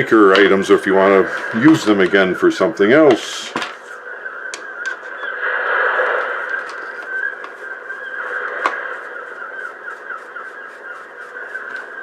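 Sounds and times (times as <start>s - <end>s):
seagulls squawking: 0.8s - 12.0s.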